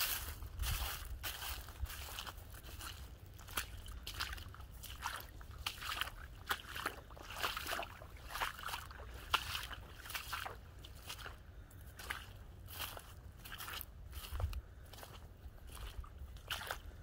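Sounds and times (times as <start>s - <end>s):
footsteps squelching in mud: 0.0s - 17.0s.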